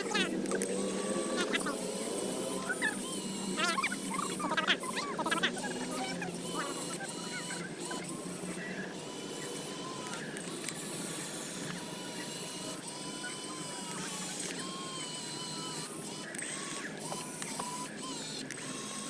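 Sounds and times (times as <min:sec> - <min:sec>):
model truck electric motor whine: 0:00.0 - 0:19.0.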